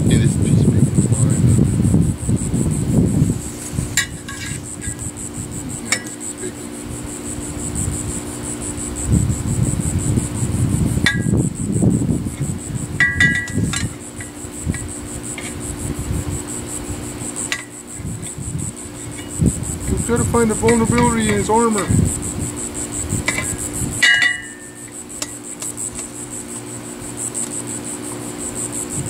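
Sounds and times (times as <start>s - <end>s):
high insect buzz: 0.0s - 29.0s.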